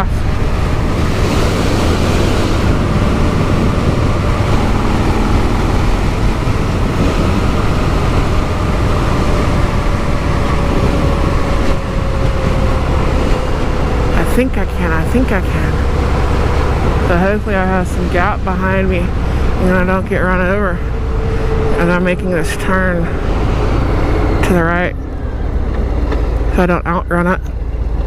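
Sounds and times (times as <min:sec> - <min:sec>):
motorcycle engine riding at speed: 0:00.0 - 0:28.0
wind noise on microphone: 0:00.0 - 0:28.0.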